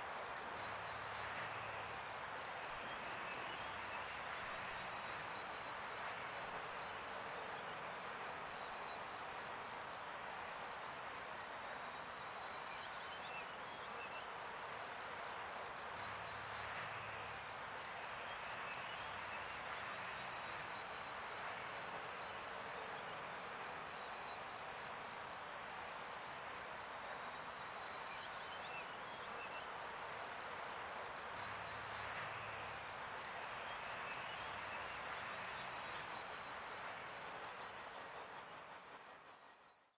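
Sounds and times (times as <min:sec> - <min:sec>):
soft steady hiss: 0:00.0 - 0:39.9.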